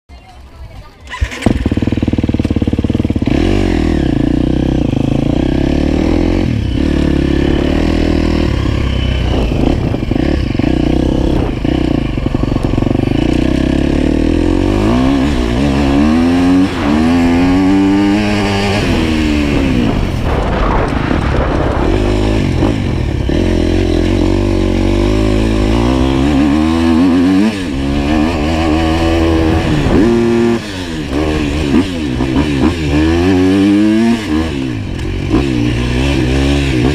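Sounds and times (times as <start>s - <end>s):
dirt bike engine revving: 1.0s - 36.9s.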